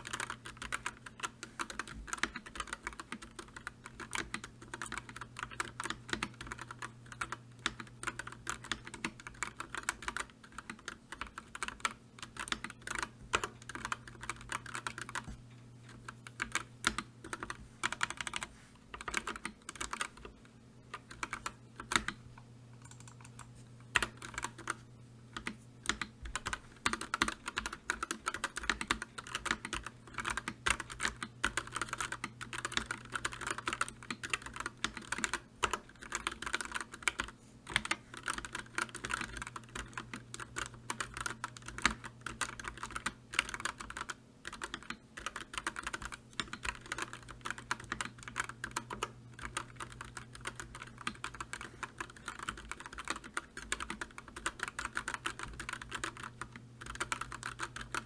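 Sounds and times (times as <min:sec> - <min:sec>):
fast typing on keyboard: 0:00.0 - 0:15.3, 0:15.9 - 0:20.3, 0:20.9 - 0:22.2, 0:22.8 - 0:24.8, 0:25.4 - 0:58.0
faint low hum: 0:00.0 - 0:58.0.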